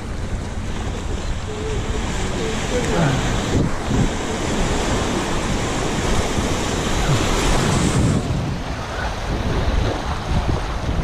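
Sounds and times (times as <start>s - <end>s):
surf washing through shallows: 0.0s - 11.0s
wind rumbling on microphone: 0.0s - 11.0s.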